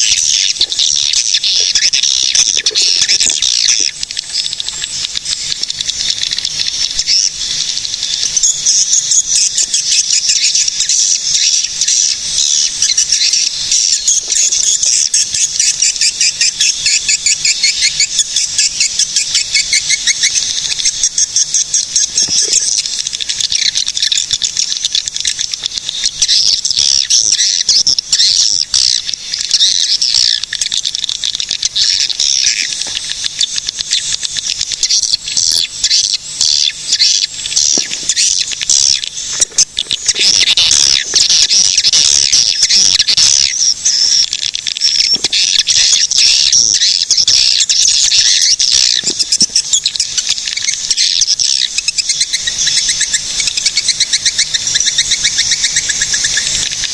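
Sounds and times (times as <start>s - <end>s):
swiftlets chirping and trilling: 0.0s - 56.9s.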